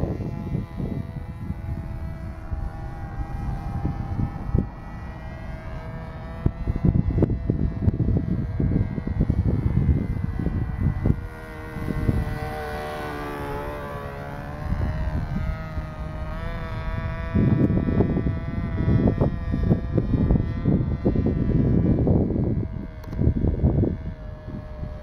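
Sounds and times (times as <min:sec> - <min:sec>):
model airplane engine buzzing: 0:00.0 - 0:25.0
wind rumbling on microphone: 0:00.0 - 0:25.0.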